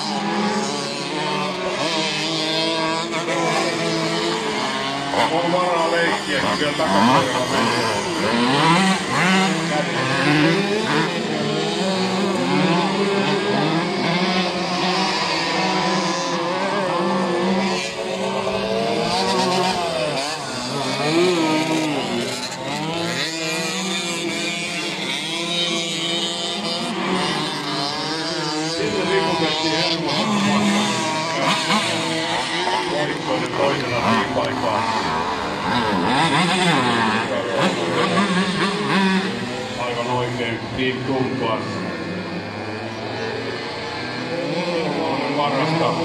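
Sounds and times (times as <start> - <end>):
moped engines whining: 0.0 - 46.0.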